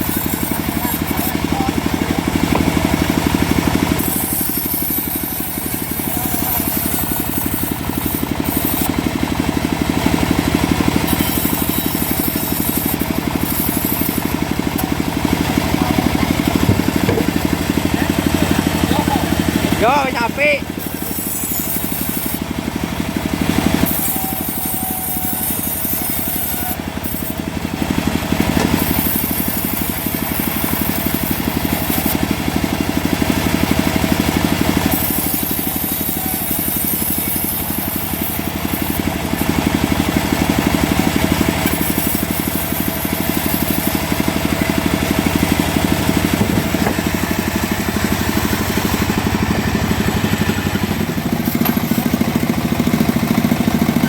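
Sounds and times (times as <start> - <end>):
saw blade rasping through log: 0.0 - 54.0
sawmill engine drone: 0.0 - 54.0.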